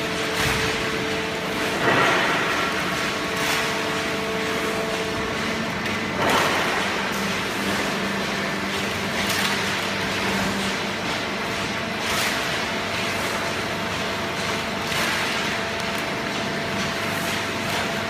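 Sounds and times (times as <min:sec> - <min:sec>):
baling press machine hum: 0:00.0 - 0:18.0.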